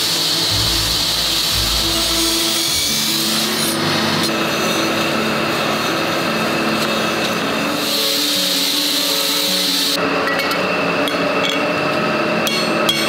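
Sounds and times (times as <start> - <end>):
coal forge fire rushing: 0.0 - 13.0.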